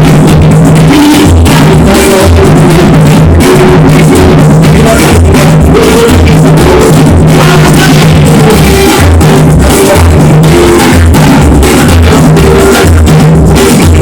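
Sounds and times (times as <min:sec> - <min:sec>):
deep drums beating: 0:00.0 - 0:14.0
live samba-reggae band music: 0:00.0 - 0:14.0.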